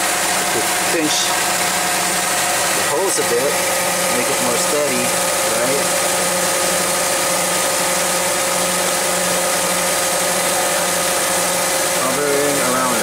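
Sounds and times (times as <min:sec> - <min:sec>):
forklift engine idling: 0:00.0 - 0:13.0.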